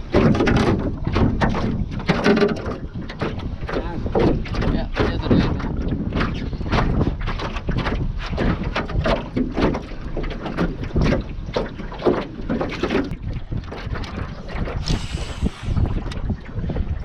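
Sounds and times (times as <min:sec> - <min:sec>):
water knocking against boat: 0:00.0 - 0:17.0
wind buffeting microphone: 0:00.0 - 0:17.0.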